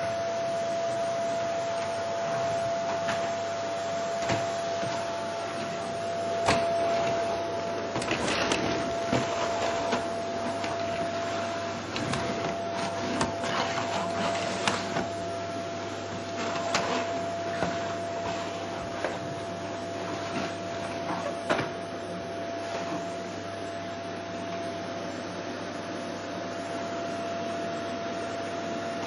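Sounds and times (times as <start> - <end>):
vacuum cleaner motor whir: 0.0 - 29.0.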